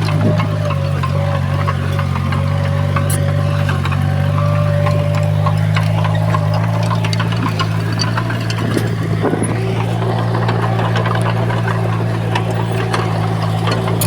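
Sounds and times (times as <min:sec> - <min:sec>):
heavy diesel engine running: 0:00.0 - 0:14.0
light clicks and clanks: 0:00.0 - 0:14.0.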